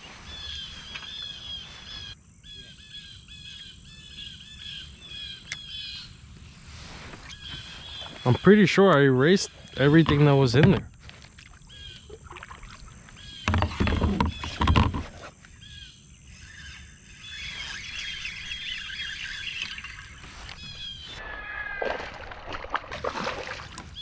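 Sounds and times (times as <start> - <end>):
songbirds chirping: 0.0 - 22.1.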